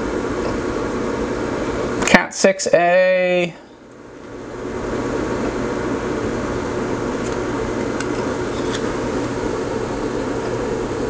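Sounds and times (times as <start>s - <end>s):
fan whooshing: 0.0s - 11.0s.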